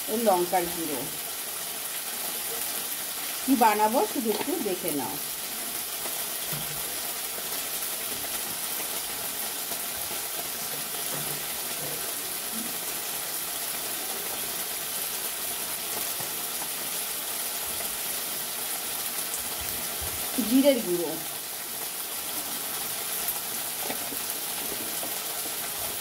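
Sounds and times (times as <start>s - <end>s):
spices sizzling in oil: 0.0s - 26.0s.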